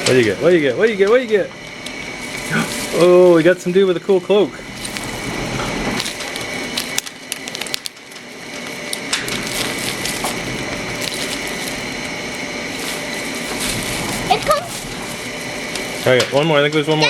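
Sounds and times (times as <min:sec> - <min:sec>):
plastic packaging crinkling: 0:00.1 - 0:16.7.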